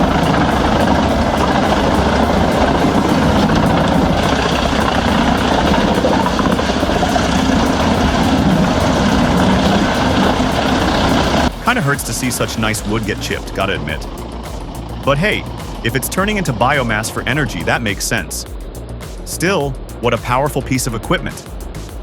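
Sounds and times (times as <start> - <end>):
tree chipper engine drone: 0.0 - 19.0.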